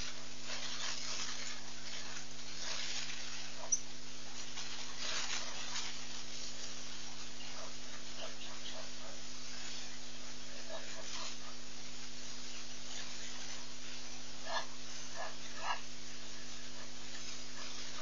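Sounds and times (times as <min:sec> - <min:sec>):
constant hiss: 0:00.0 - 0:18.0
electrical hum: 0:00.0 - 0:18.0
soft scratchy noises: 0:00.0 - 0:18.0.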